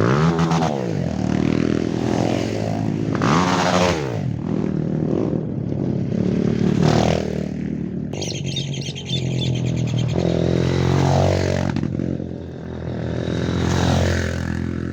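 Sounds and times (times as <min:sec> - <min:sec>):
dirt bike engines revving: 0:00.0 - 0:14.9.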